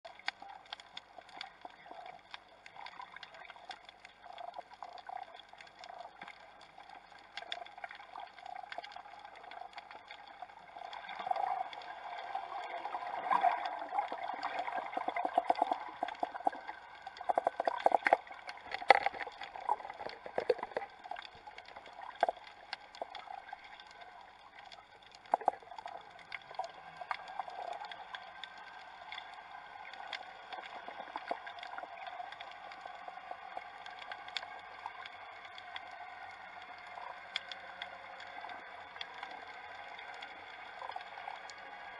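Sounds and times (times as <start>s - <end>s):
underwater gurgling: 0.0s - 41.9s
underwater crackling clicks: 0.1s - 41.9s.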